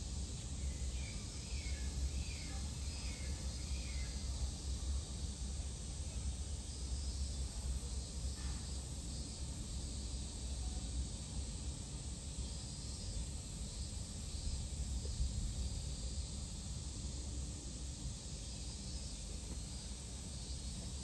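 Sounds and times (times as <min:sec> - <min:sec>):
even hiss: 0:00.0 - 0:21.0.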